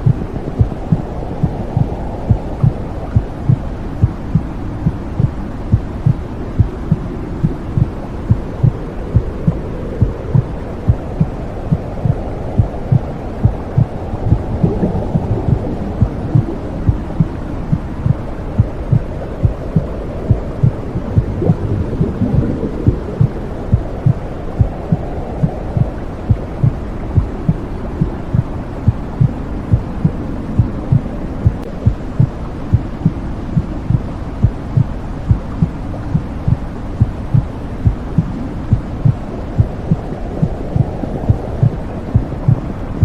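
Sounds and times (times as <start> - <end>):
heartbeat thumping: 0.0 - 42.7
low whooshing hum: 0.0 - 43.0.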